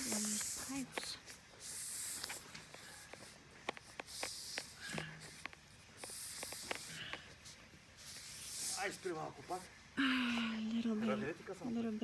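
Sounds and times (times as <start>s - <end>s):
bursts of hiss: 0.0s - 10.4s.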